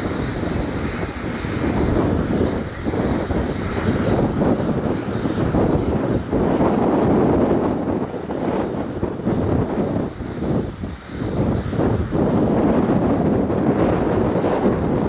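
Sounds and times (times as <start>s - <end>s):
drone propeller and motor noise: 0.0s - 15.0s.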